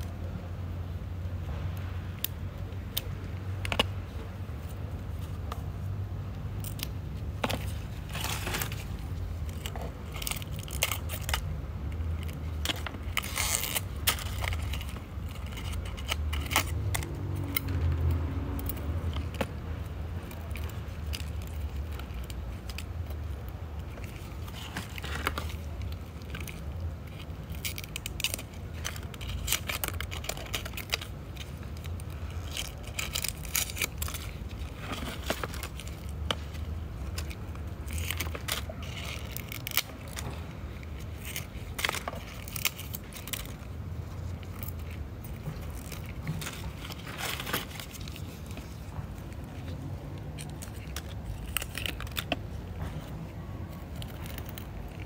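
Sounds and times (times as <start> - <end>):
dry leaves crackling and snapping: 1.8 - 55.0.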